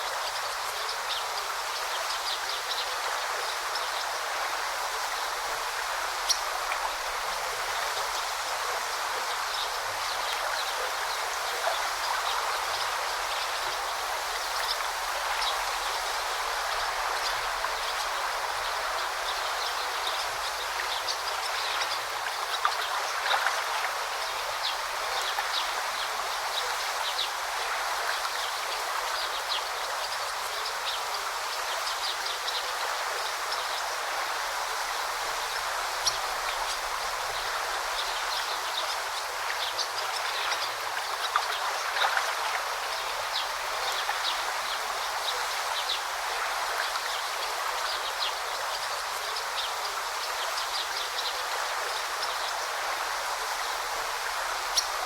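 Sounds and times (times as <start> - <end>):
river running over rocks: 0.0 - 55.0.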